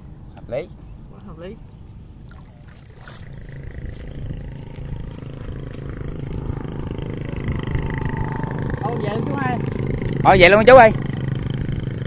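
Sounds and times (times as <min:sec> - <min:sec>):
small engine humming: 0:02.2 - 0:12.0.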